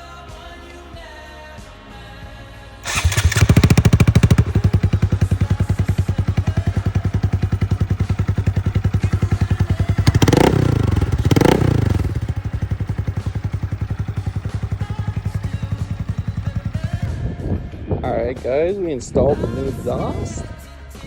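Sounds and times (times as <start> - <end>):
motorcycle engine idling and revving: 2.8 - 20.5.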